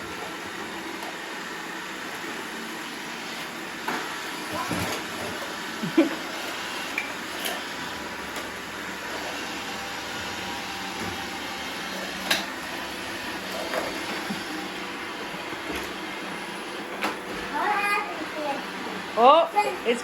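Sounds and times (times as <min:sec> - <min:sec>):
robot vacuums humming: 0:00.0 - 0:20.0.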